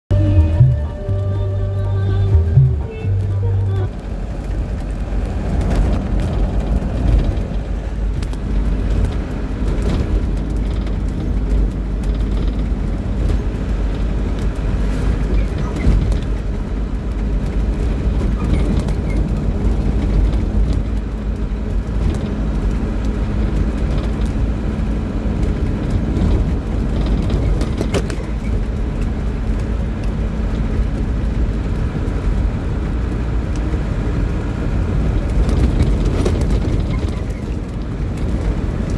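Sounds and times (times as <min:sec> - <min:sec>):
vehicle running rumble: 0:00.0 - 0:38.9.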